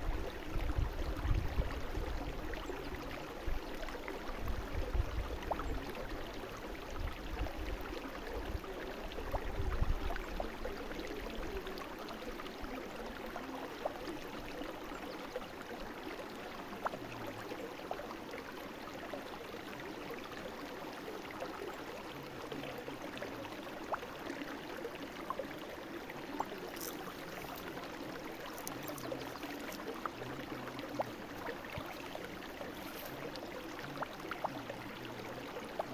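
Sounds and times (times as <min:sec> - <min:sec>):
brook babbling over stones: 0:00.0 - 0:35.9.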